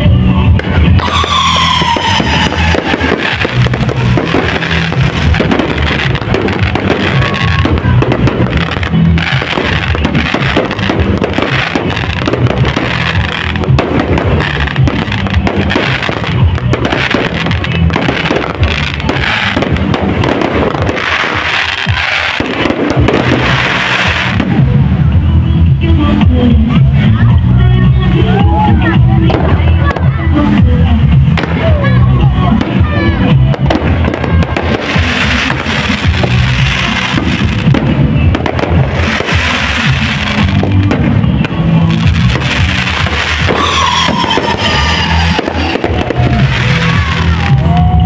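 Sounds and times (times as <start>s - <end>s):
fireworks bursting and crackling: 0.0s - 48.0s
music with heavy bass beat: 0.0s - 48.0s.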